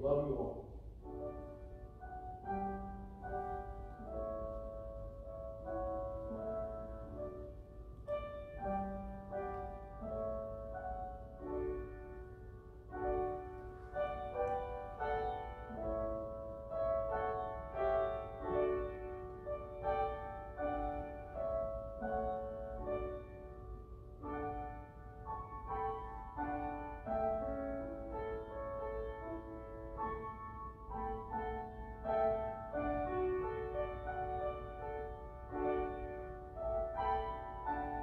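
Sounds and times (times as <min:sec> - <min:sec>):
slow piano music: 0:00.0 - 0:38.0.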